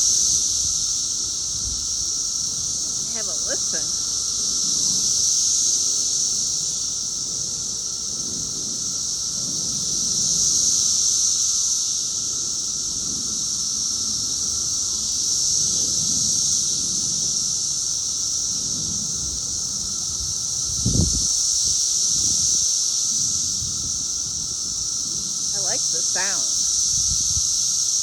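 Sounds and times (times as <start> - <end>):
cicadas buzzing in chorus: 0.0 - 28.0.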